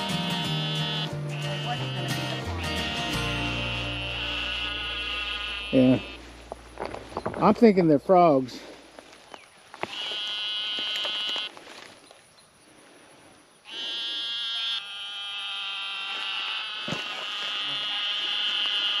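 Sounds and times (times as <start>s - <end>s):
frogs trilling: 0.3s - 7.6s, 9.0s - 11.6s, 13.5s - 19.0s.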